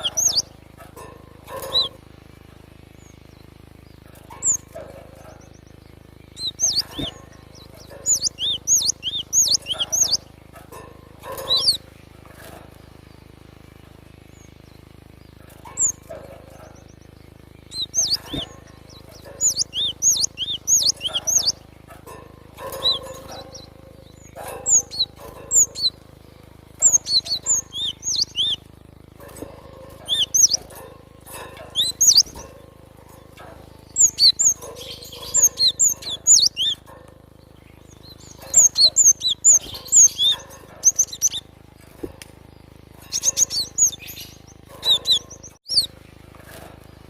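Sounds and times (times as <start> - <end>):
bird chirping: 0.0 - 47.0.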